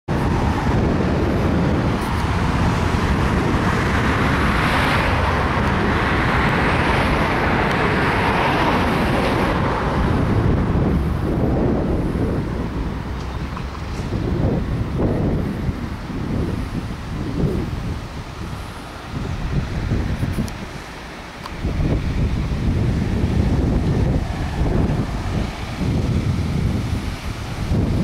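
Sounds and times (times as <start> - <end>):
road traffic passing: 0.1 - 28.0
steady low rumble: 0.1 - 28.0.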